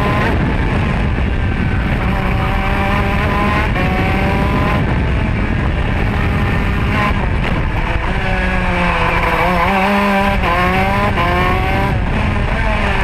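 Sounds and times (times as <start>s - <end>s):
kart two-stroke engine: 0.0s - 13.0s
steady rushing noise: 0.0s - 13.0s.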